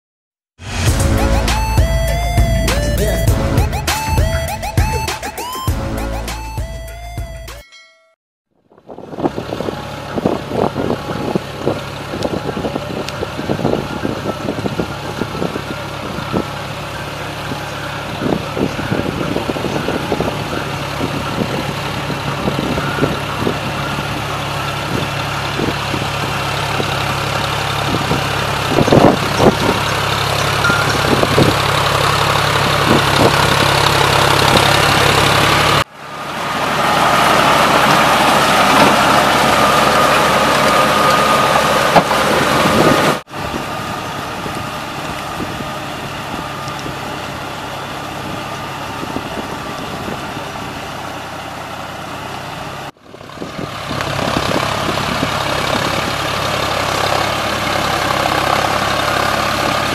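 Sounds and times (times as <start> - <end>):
tractor diesel engine running: 0.6 - 8.0, 8.6 - 59.9
rotavator churning mud: 9.3 - 59.9.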